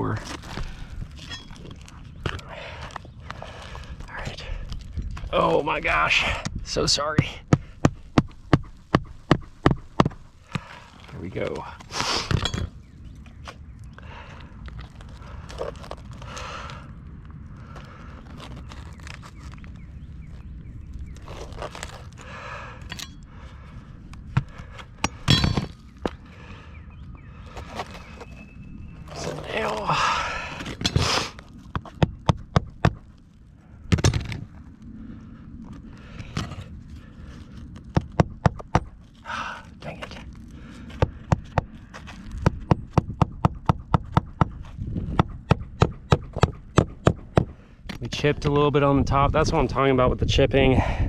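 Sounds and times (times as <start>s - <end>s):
shingle scraping crack: 0.0s - 5.6s, 7.5s - 13.6s, 14.6s - 16.9s, 17.6s - 26.3s, 27.4s - 34.7s, 35.7s - 48.6s.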